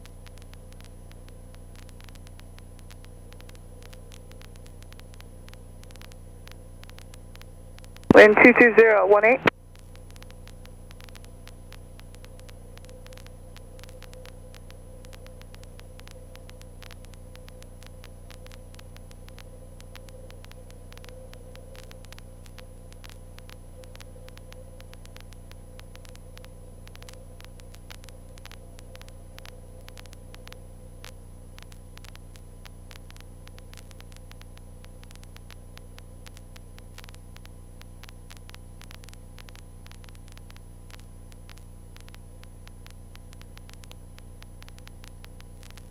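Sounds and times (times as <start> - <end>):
static crackles: 0.0 - 45.9.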